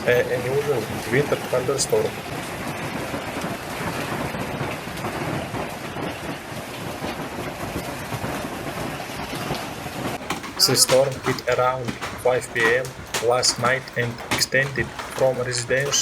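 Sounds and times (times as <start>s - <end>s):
hail and rain pelting down: 0.0s - 16.0s.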